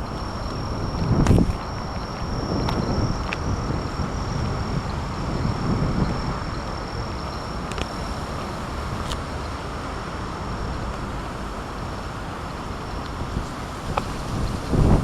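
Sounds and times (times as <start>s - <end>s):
thin high steady tone: 0.0s - 13.6s
wind rushing over microphone: 0.0s - 15.0s.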